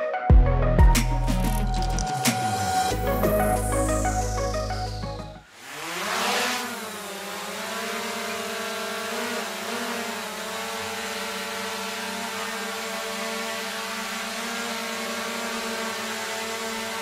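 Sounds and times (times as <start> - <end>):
drone propellers buzzing: 1.0 - 17.0.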